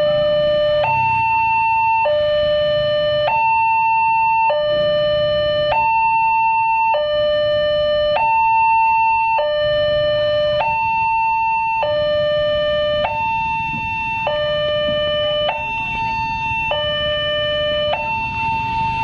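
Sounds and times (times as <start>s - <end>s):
level crossing two-tone alarm: 0.0s - 19.0s.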